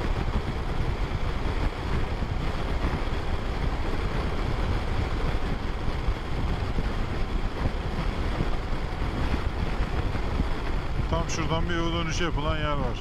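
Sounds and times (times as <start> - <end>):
wind rush on microphone: 0.0 - 13.0.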